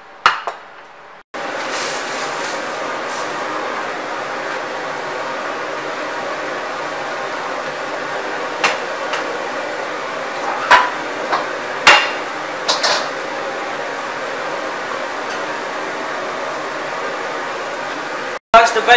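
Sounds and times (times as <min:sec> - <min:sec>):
gas burner roaring: 0:01.1 - 0:18.9.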